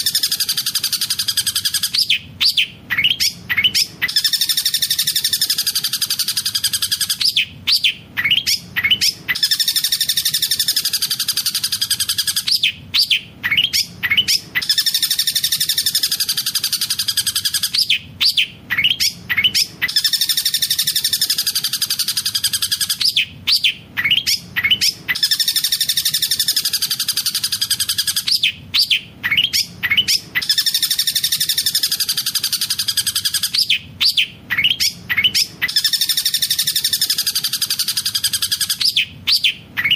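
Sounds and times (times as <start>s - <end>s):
bird singing rolling trill: 0.0s - 39.9s
sharp bird chirps: 0.0s - 39.9s.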